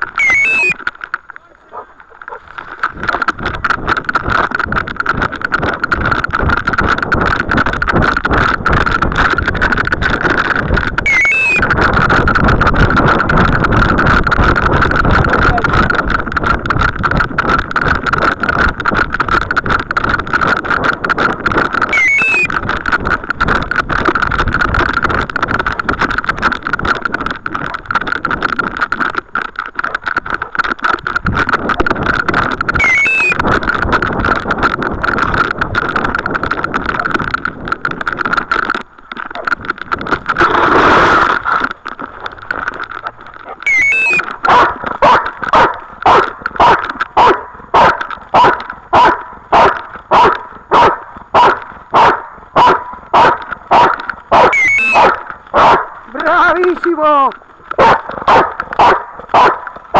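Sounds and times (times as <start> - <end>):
rubbing and rustling on microphone: 0.0 - 59.9.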